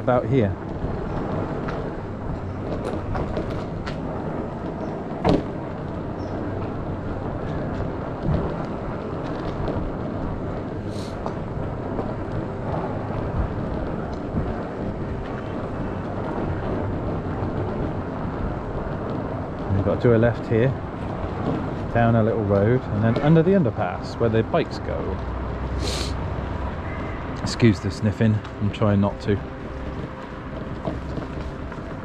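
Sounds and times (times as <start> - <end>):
wheels rumbling over concrete: 0.0 - 32.0.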